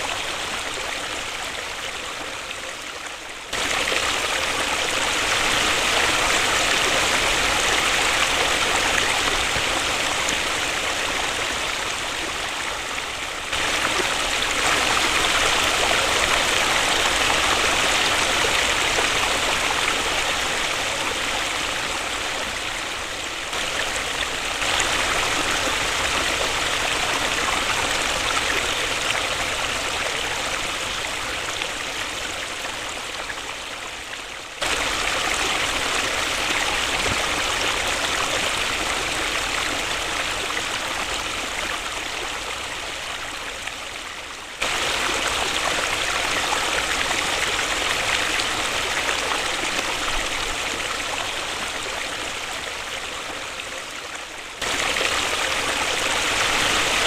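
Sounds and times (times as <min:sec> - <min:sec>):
waterfall rushing: 0:03.5 - 0:32.4, 0:34.6 - 0:43.3, 0:44.6 - 0:52.9, 0:54.6 - 0:57.0.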